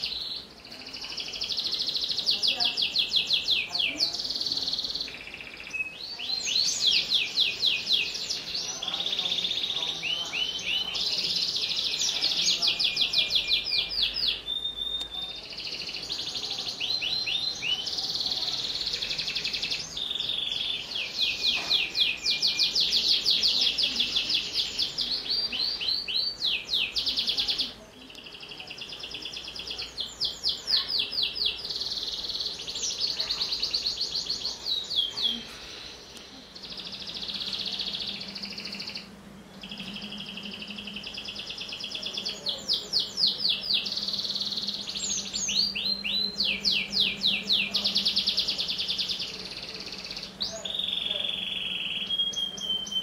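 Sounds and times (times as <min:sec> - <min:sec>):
canary trilling song: 0:00.0 - 0:53.0.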